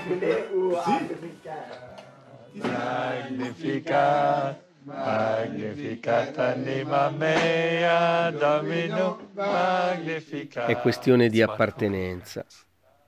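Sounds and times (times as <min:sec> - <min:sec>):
group of voices chanting: 0:00.0 - 0:11.2.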